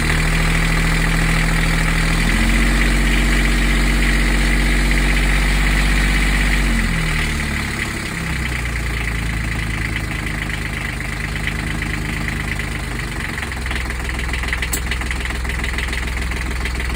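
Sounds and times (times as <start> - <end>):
marine diesel engine idling: 0.0 - 16.9.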